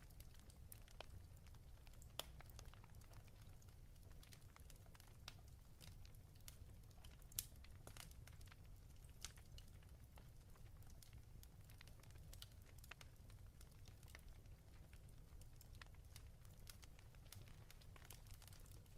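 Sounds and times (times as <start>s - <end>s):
fireplace crackling: 0.0s - 18.9s.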